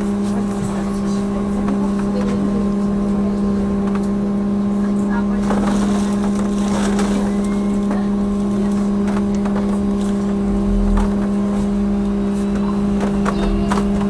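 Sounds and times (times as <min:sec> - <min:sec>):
steady electrical hum: 0:00.0 - 0:13.8
low road rumble: 0:00.0 - 0:14.0.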